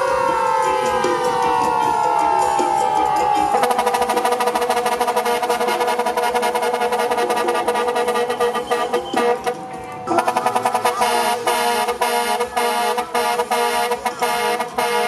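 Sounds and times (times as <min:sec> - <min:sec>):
falling siren wail: 0:00.0 - 0:15.0
truck air horns pulsing: 0:00.0 - 0:15.0.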